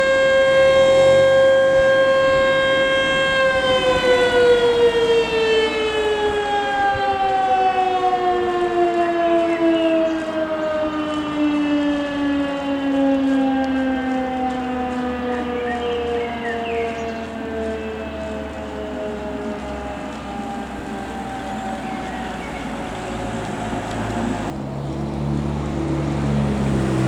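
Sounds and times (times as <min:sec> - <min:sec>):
fire alarm siren winding down: 0:00.0 - 0:24.5.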